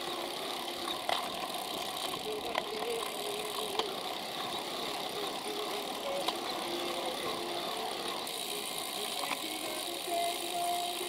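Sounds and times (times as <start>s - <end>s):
traffic: 0.0s - 11.0s.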